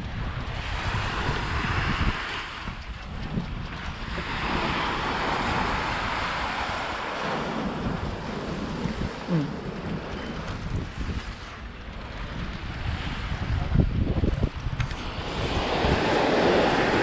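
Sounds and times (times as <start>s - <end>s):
wind buffeting microphone: 0.0s - 17.0s
surf washing onto beach: 0.4s - 17.0s.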